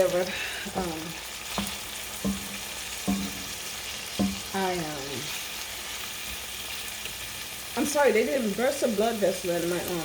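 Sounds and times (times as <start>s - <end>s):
frying sizzle in a pan: 0.0s - 10.0s.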